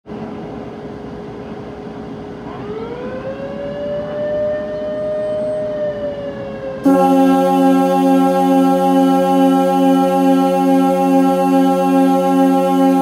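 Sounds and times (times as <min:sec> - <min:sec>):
electronic siren wailing: 0:02.5 - 0:13.0.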